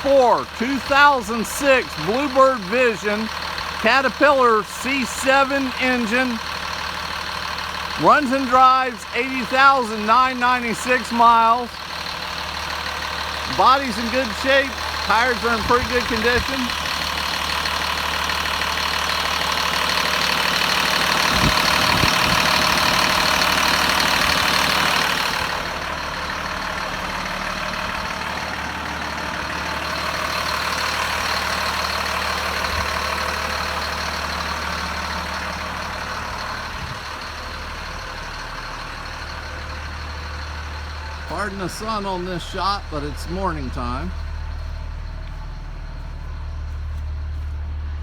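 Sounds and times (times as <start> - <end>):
diesel bus engine idling: 0.0 - 48.0.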